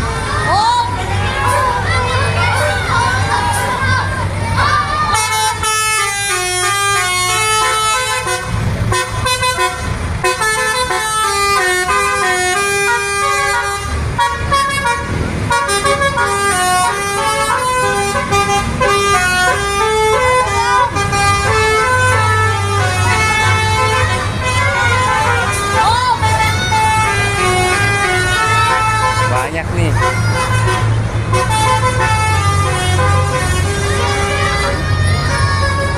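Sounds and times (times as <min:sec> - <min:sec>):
bus engine running: 0:00.0 - 0:35.9
musical air horns playing tunes: 0:05.1 - 0:35.9.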